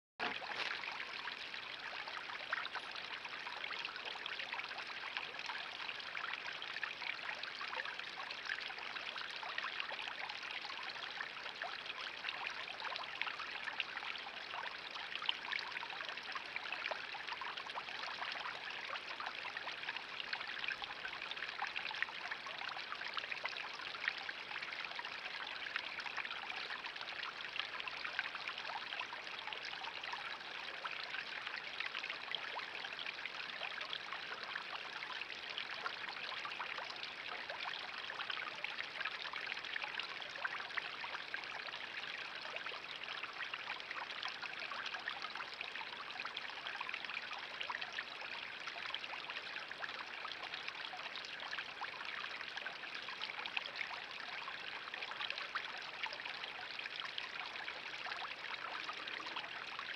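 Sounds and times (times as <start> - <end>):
water spilling into pond: 0.2 - 59.9.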